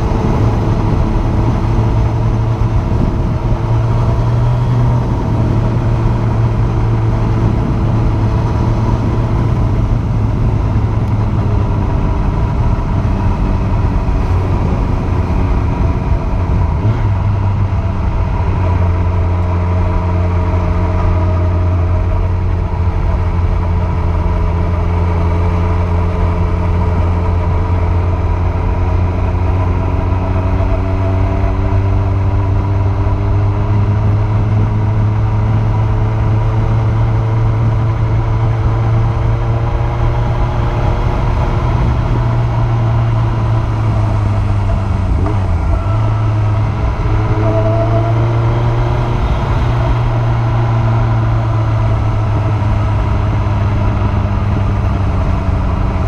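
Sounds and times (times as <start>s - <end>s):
motorcycle engine running: 0.0s - 56.0s
wind noise: 0.0s - 56.0s.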